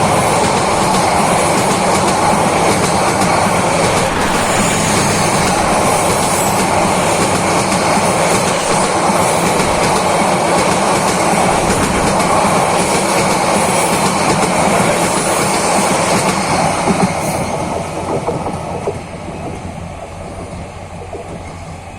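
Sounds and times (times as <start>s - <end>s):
train wheels on rails: 0.0s - 21.9s.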